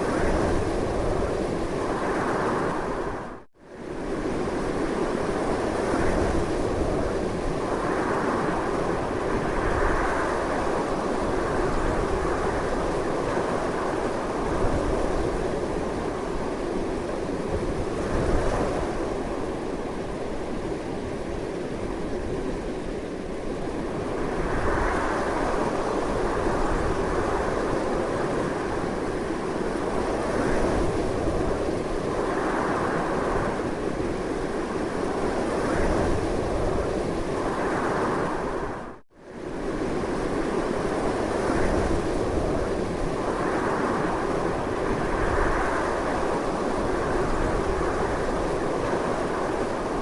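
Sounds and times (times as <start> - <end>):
strong gusty wind: 0.0 - 50.0.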